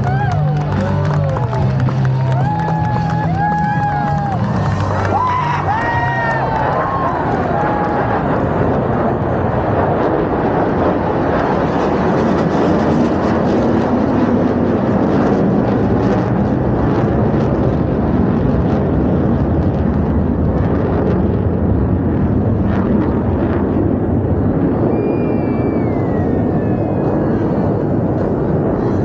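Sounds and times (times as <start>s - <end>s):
jet noise overhead: 0.0s - 29.0s.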